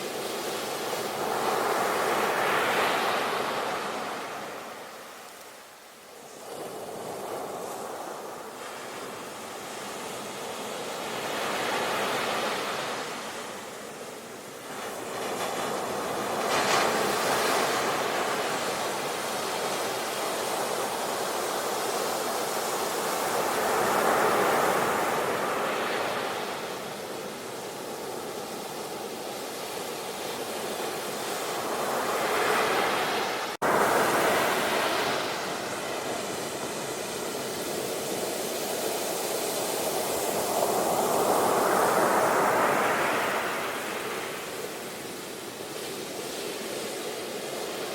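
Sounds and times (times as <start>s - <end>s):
waves breaking on shore: 0.0s - 47.9s.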